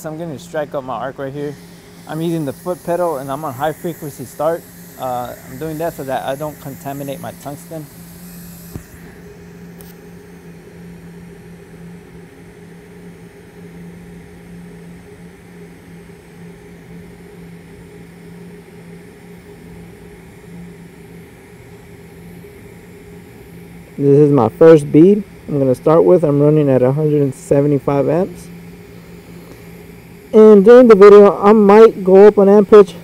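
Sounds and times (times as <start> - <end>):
welding arc humming and hissing: 0.0 - 33.0.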